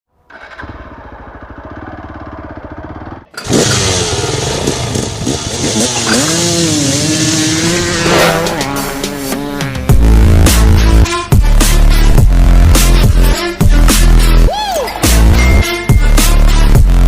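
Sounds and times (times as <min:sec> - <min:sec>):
motorcycle engine idling and revving: 0:00.2 - 0:14.4, 0:15.0 - 0:17.0.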